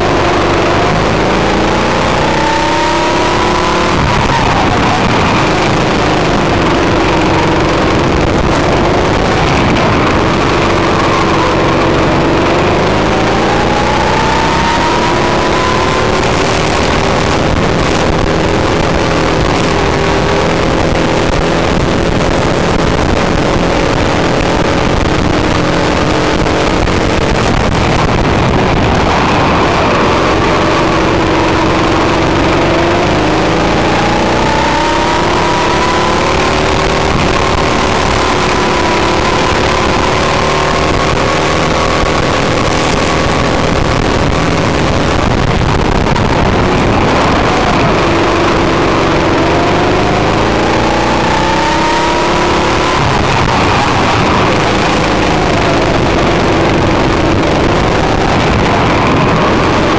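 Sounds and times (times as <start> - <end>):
go-kart engine running hard: 0.0 - 59.9.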